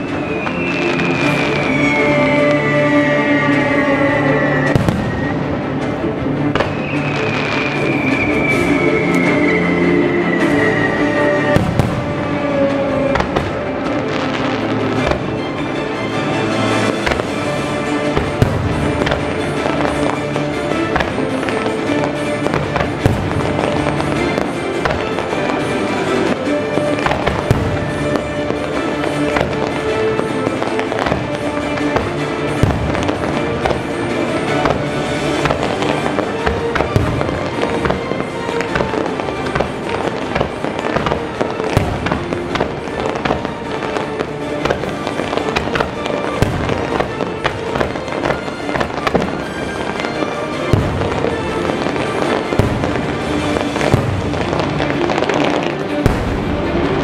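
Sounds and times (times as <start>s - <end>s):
fireworks bursting and crackling: 0.0s - 57.0s
music playing: 0.0s - 57.0s.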